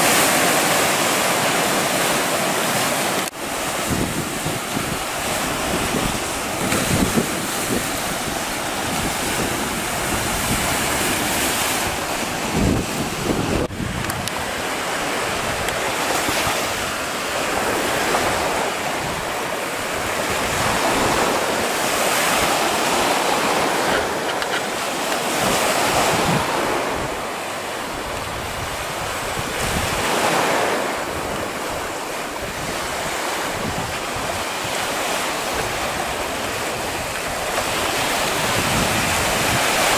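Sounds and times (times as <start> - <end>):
sea waves breaking on shore: 0.0 - 39.9
wind buffeting microphone: 3.4 - 39.9.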